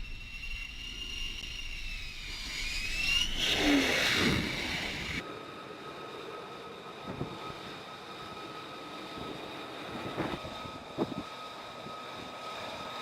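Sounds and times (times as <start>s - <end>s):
jet engine whining and roaring: 0.0s - 13.0s
quieter steady whine: 0.0s - 13.0s.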